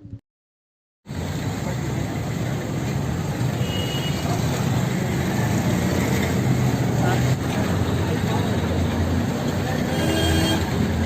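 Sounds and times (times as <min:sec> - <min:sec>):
road traffic noise: 0:01.0 - 0:11.0.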